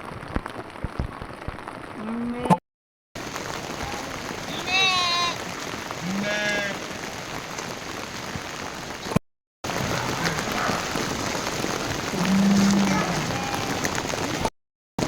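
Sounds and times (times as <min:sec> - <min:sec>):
rain pattering: 0:00.0 - 0:02.6, 0:03.2 - 0:14.5.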